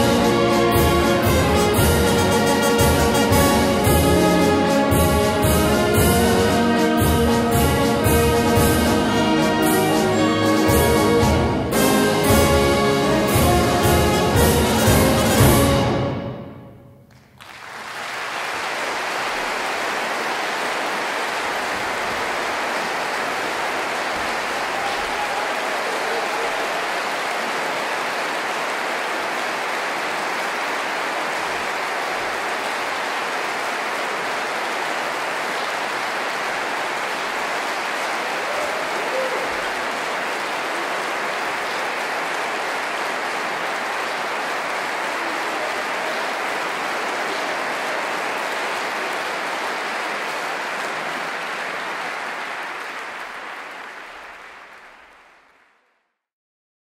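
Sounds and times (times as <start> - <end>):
large audience applauding: 0.0 - 16.4, 17.0 - 56.1.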